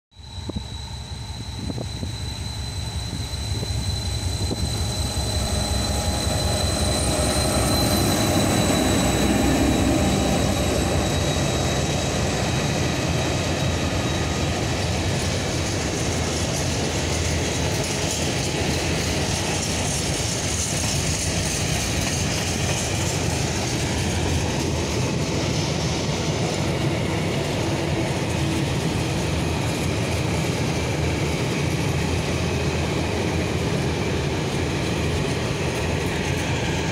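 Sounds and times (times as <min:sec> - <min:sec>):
diesel locomotive passing: 0:00.2 - 0:36.9
freight wagon wheels rumbling on rails: 0:01.4 - 0:36.9.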